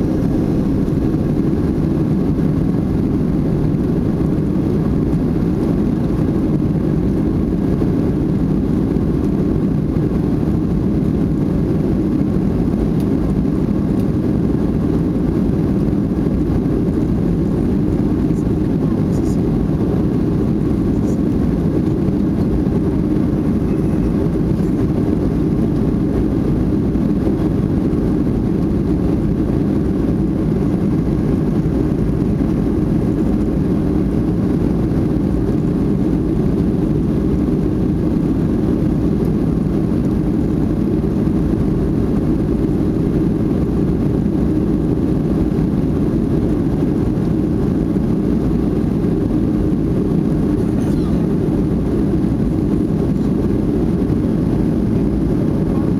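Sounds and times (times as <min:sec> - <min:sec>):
airliner cabin low rumble: 0:00.0 - 0:55.9.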